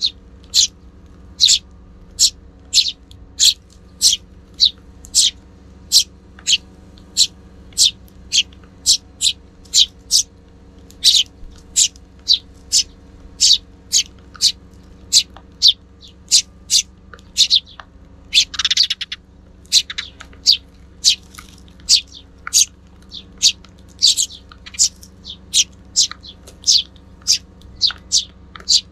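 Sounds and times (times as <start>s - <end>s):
sparrows chirping: 0.0s - 28.9s.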